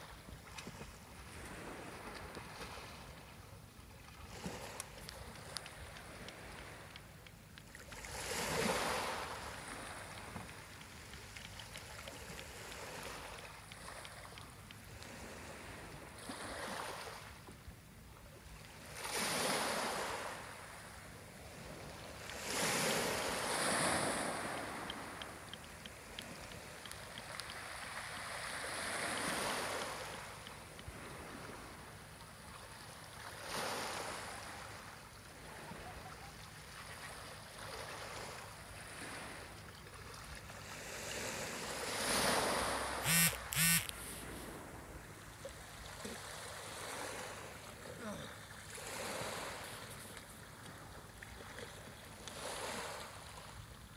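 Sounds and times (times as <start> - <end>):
small waves lapping at shore: 0.0 - 53.9.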